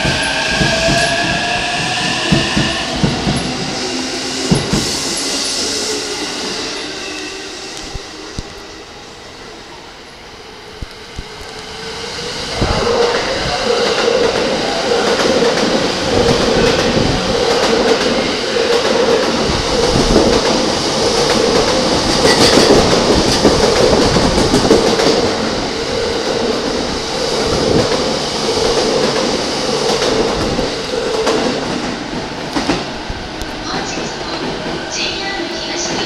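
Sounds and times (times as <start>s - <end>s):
electric train passing at speed: 0.0s - 36.0s.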